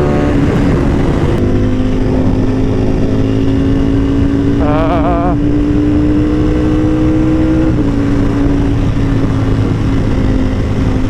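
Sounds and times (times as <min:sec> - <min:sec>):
motorcycle engine cruising: 0:00.0 - 0:11.0
rushing wind: 0:00.0 - 0:11.0.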